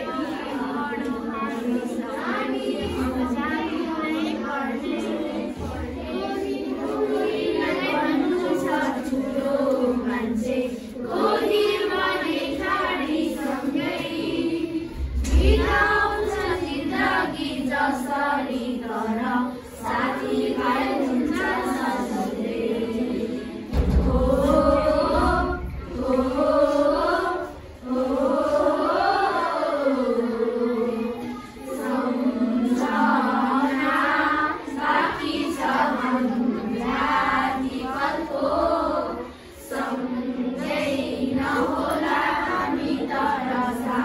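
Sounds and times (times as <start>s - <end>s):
children singing in unison: 0.0s - 44.0s.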